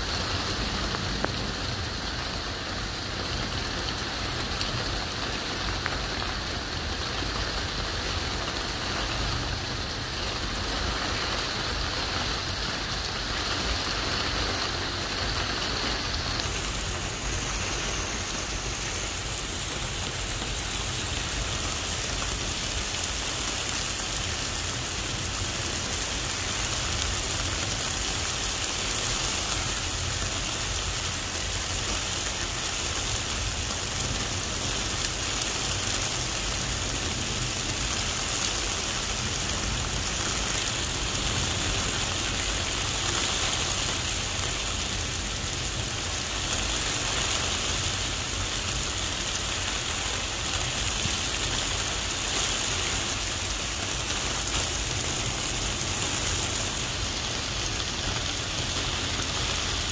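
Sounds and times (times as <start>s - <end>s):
heavy rain on street: 0.0s - 59.9s.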